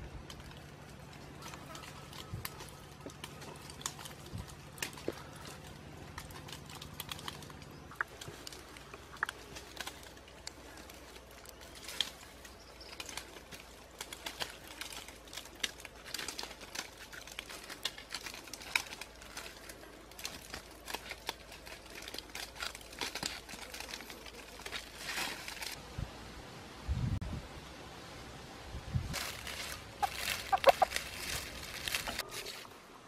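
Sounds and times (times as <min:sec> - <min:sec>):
twigs and leaves crackling: 0:00.0 - 0:25.8, 0:29.1 - 0:33.0.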